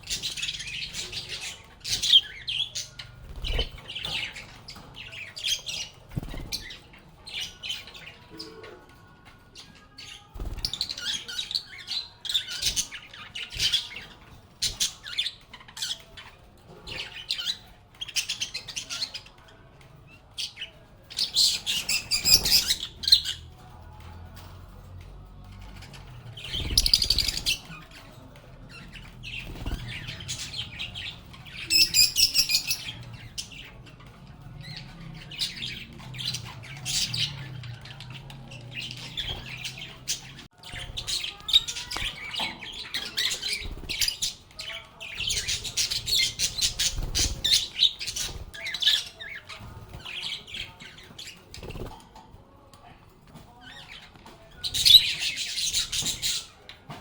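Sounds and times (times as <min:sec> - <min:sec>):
lovebirds chattering and squawking: 0:00.0 - 0:57.0.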